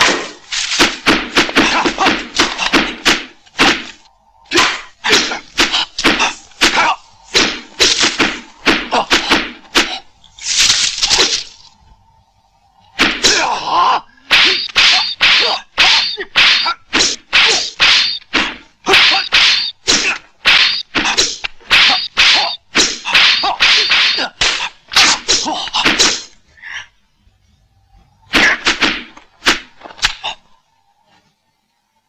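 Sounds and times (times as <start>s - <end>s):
wooden staffs swishing and whacking: 0.0s - 11.7s, 14.2s - 26.4s, 28.3s - 30.5s.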